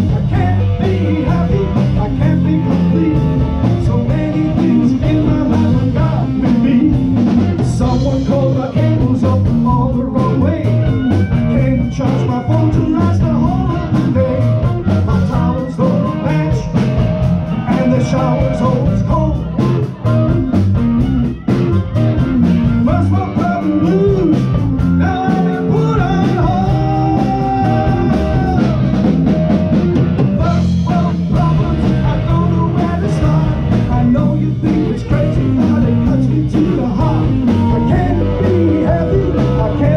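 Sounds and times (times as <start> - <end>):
blues-rock band playing loudly: 0.0 - 39.9
electric guitar lead line bending: 0.0 - 39.9.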